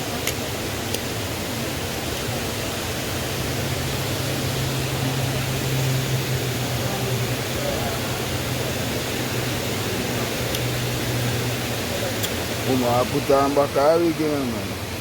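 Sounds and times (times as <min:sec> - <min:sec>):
low steady hum: 0:00.0 - 0:15.0
waterfall and river rushing: 0:00.0 - 0:15.0.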